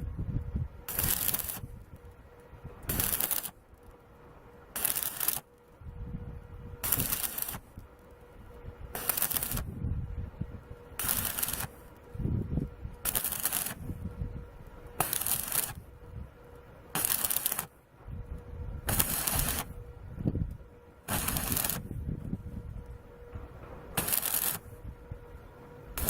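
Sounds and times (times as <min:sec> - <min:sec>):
crackling weld bursts: 0:00.0 - 0:05.9, 0:06.8 - 0:09.8, 0:10.7 - 0:26.0
faint steady hum: 0:00.0 - 0:26.0.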